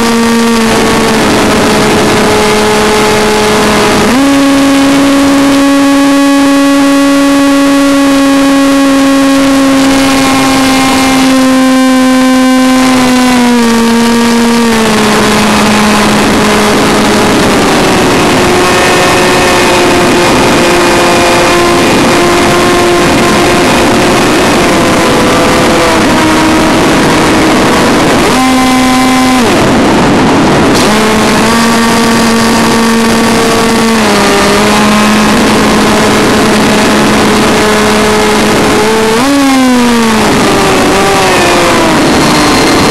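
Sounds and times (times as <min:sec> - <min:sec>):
electric motor whine: 0:00.0 - 0:42.9.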